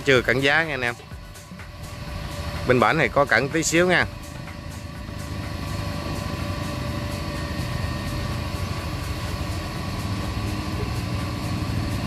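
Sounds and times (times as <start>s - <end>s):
boat engine running: 0.0s - 12.0s
faint steady whine: 0.0s - 12.0s.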